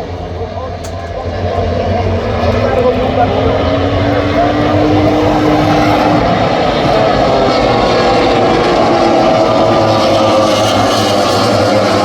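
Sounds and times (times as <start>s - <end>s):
racing motorcycle engines revving: 0.0s - 12.0s.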